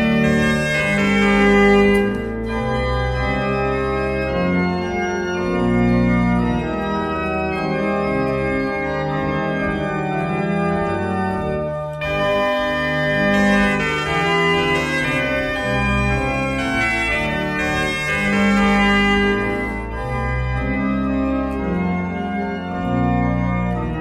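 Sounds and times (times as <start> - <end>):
organ playing chords: 0.0 - 24.0.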